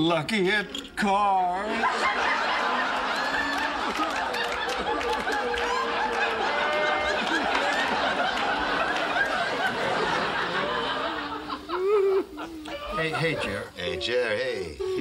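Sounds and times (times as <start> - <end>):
studio audience laughing: 1.6 - 13.8.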